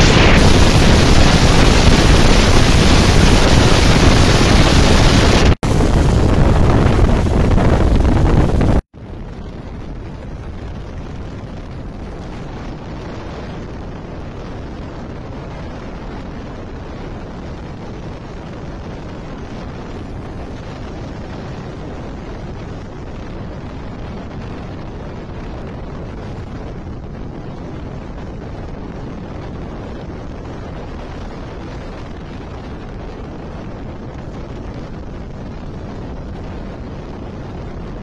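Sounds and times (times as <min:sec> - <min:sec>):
heavy rain: 0:00.0 - 0:38.0
rushing wind: 0:00.0 - 0:38.0.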